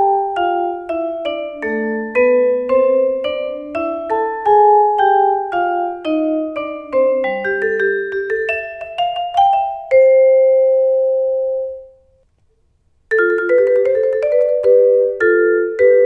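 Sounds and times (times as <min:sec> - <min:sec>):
vibraphone played with mallets: 0:00.0 - 0:11.9, 0:13.1 - 0:16.0.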